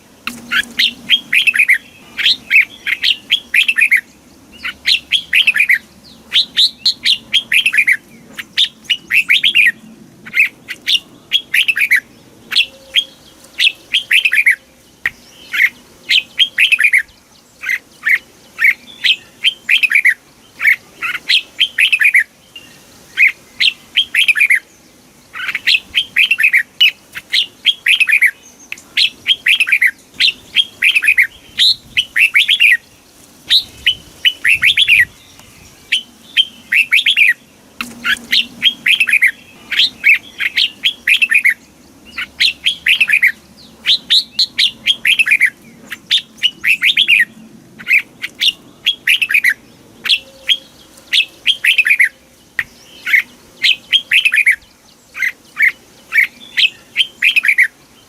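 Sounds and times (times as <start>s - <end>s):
bird singing whistled notes: 0.3s - 32.9s, 33.5s - 57.8s.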